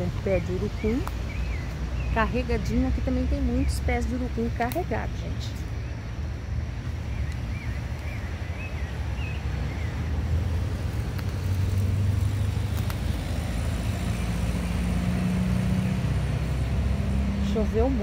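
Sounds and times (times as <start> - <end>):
road traffic rumble: 0.0 - 18.0
vehicle engine hum: 0.0 - 18.0.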